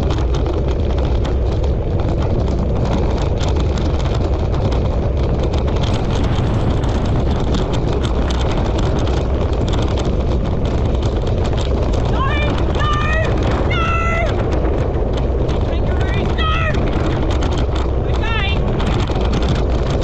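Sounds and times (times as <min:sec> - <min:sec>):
wheeled rig rumbling and rattling: 0:00.0 - 0:20.0
wind buffeting microphone: 0:00.0 - 0:20.0.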